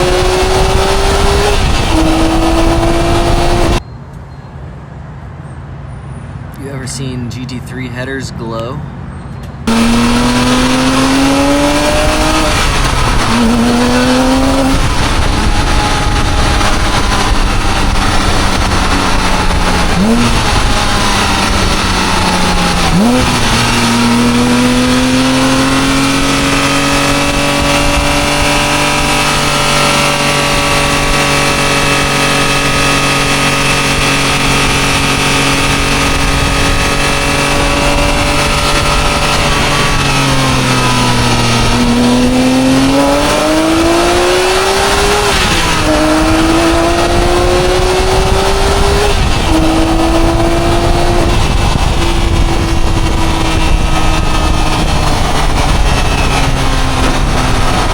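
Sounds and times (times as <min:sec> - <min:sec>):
car engine revving: 0:00.0 - 0:03.8, 0:09.6 - 0:57.9.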